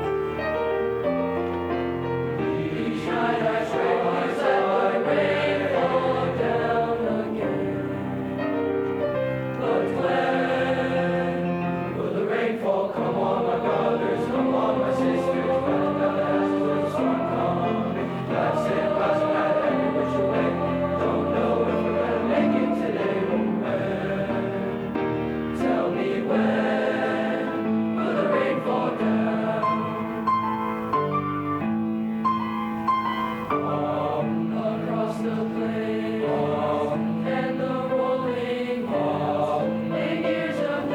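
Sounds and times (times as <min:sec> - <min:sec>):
choir singing in harmony: 0:00.0 - 0:31.7, 0:33.0 - 0:40.9.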